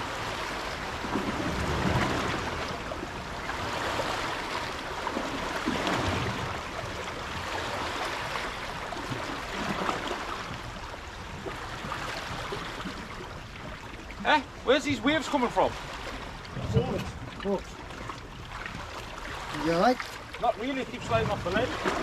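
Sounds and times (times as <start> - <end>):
waves splashing against shore: 0.0 - 22.0.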